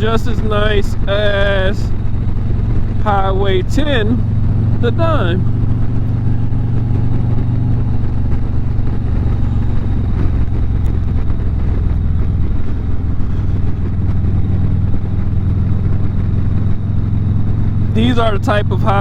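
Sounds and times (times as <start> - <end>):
motorcycle engine cruising: 0.0 - 19.0
road and wind noise: 0.0 - 19.0.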